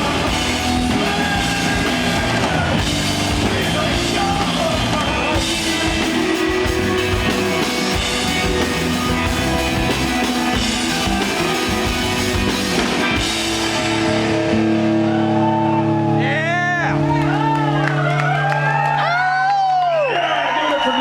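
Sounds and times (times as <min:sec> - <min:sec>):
rock band playing: 0:00.0 - 0:19.9.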